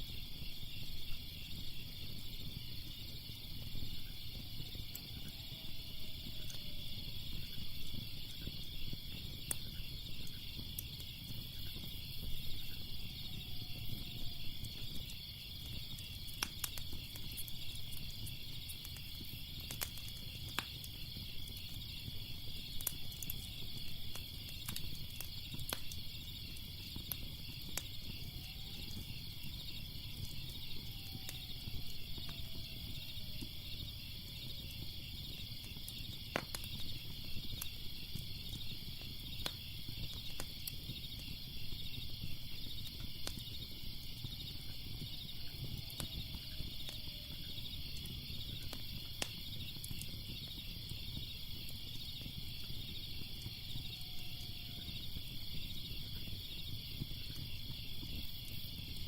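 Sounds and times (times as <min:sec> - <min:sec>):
crickets chirping: 0:00.0 - 0:59.0
fire crackling and popping: 0:00.0 - 0:59.0.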